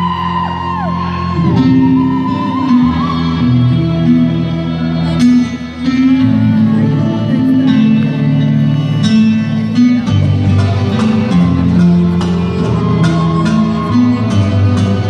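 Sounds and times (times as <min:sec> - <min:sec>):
sustained bass notes: 0:00.0 - 0:15.0
plucked string instrument: 0:01.2 - 0:15.0.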